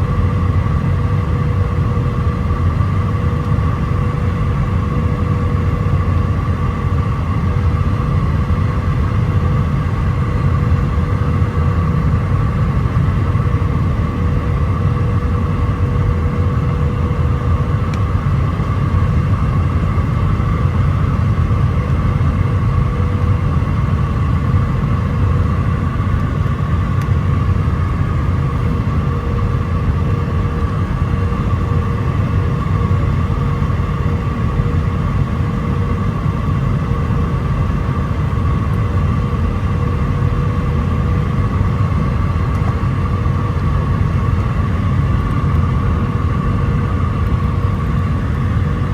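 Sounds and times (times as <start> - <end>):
airflow and engine rumble: 0.0 - 48.9
jet engine whining: 0.0 - 48.9.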